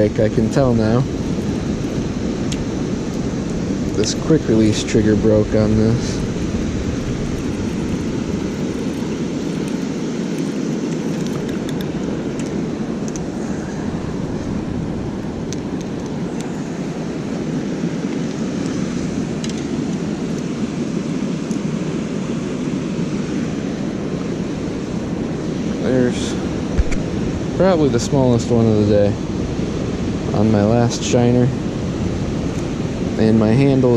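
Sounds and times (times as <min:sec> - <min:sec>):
water roaring over a dam: 0:00.0 - 0:33.9.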